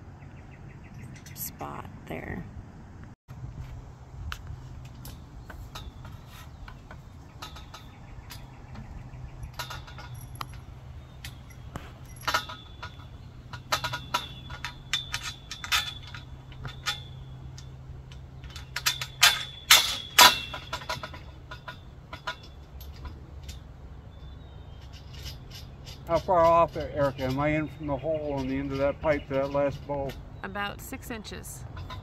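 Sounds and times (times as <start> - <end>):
metal pipes clinking: 4.6 - 32.0.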